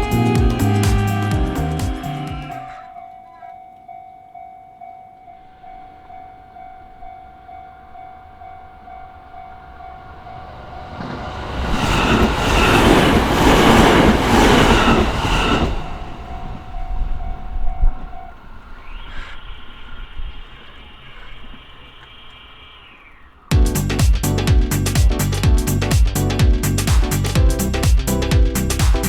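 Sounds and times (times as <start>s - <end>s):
train passing: 5.0s - 28.8s.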